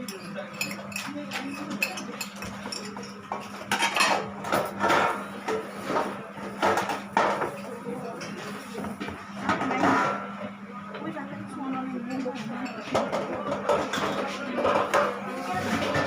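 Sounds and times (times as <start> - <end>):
dishes and cutlery clattering: 0.0 - 10.2, 12.0 - 16.0.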